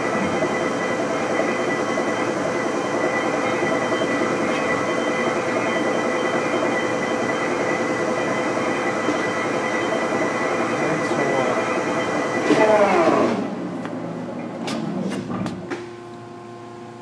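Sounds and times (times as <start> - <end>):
lathe running: 0.0 - 15.0
whining gear tones: 0.0 - 15.6.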